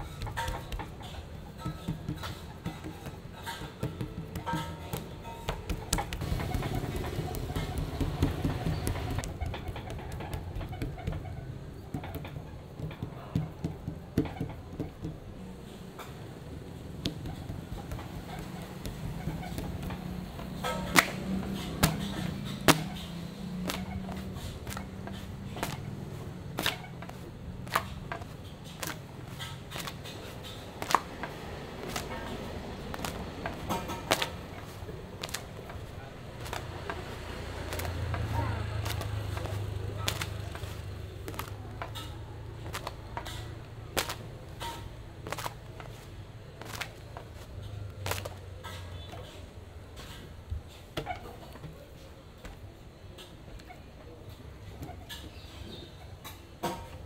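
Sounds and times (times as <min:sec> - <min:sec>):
dough knocks and slaps: 0:00.0 - 0:15.3, 0:16.8 - 0:49.4.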